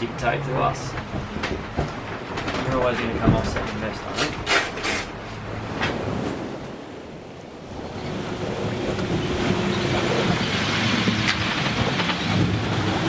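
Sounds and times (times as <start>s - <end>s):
sea rushing past hull: 0.0s - 13.0s
wind buffeting microphone: 0.0s - 13.0s.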